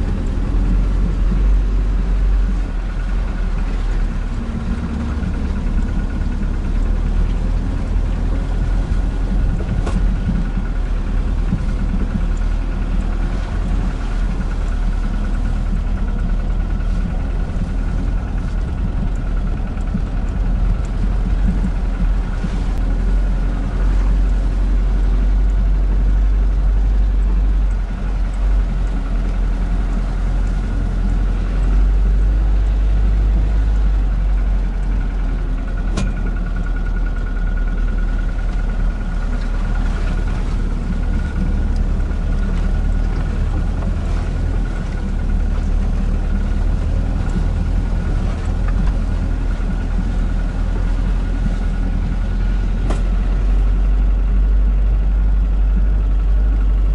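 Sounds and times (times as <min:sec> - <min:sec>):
thin steady whine: 0:00.0 - 0:56.9
van engine rumbling: 0:00.0 - 0:56.9.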